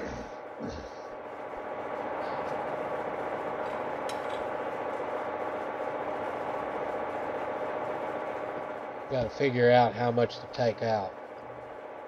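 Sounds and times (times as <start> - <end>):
machine hum with fast flutter: 0.0 - 12.0.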